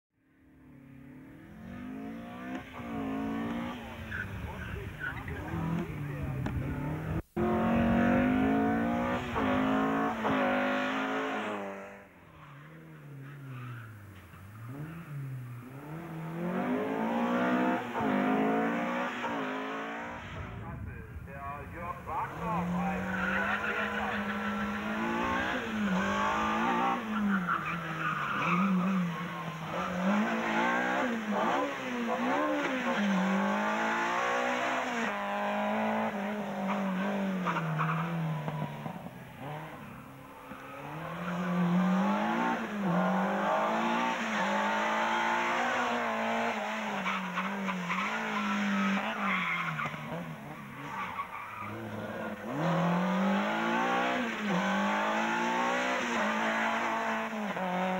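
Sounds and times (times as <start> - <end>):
race car engine revving: 0.8 - 57.9.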